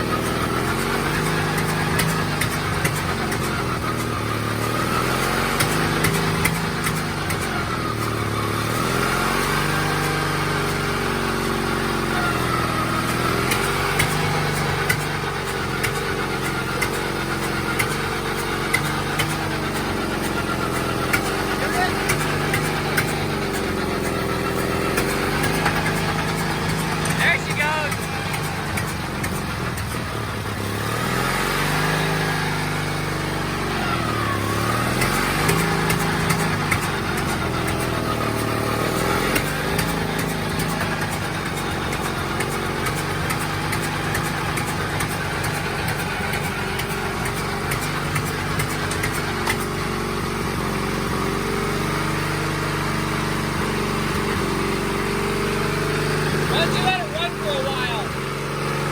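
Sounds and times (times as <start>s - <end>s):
dozer engine running: 0.0s - 58.9s.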